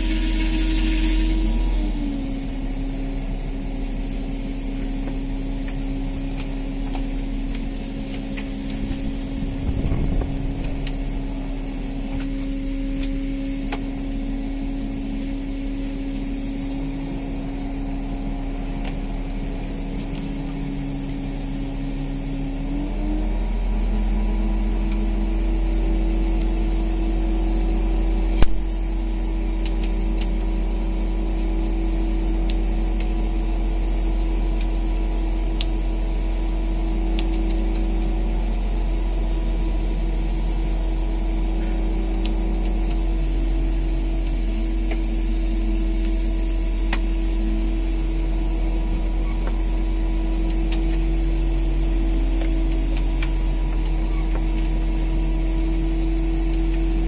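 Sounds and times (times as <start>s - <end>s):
boat engine humming: 0.0s - 57.0s
engine whine: 0.0s - 57.0s.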